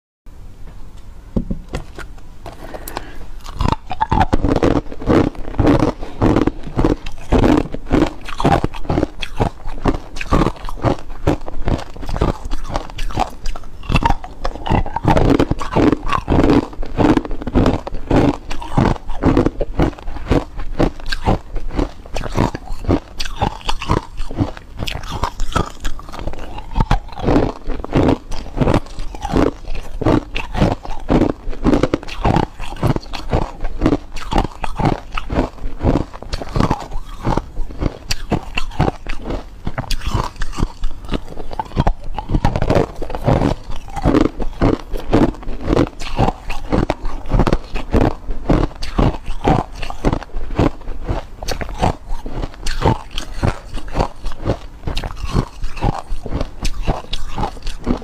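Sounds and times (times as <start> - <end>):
ice cubes being chewed: 1.8 - 58.0.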